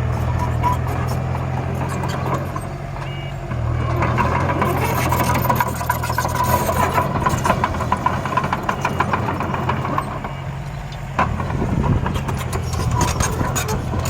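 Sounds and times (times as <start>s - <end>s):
small vehicle engine hum: 0.0s - 14.0s.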